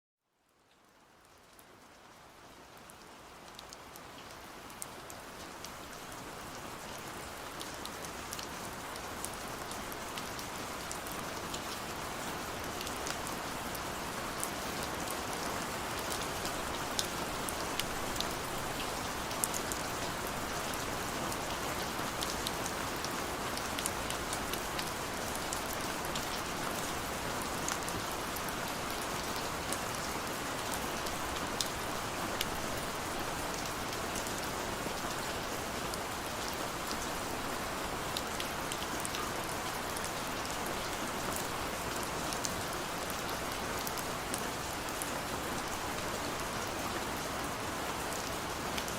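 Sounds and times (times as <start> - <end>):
steady rain hiss: 0.4 - 48.9
sharp ticks of raindrops: 0.5 - 48.9.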